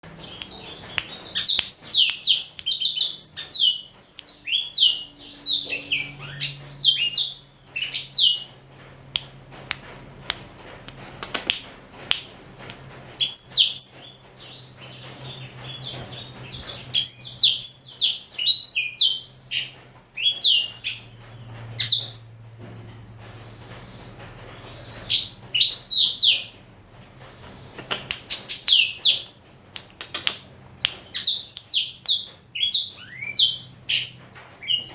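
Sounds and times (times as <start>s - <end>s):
canary singing: 0.0s - 12.0s, 12.8s - 34.9s.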